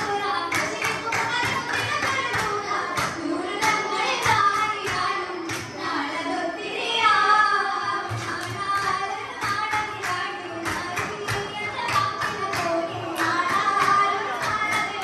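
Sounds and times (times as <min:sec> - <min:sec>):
girls singing through microphones: 0:00.0 - 0:15.0.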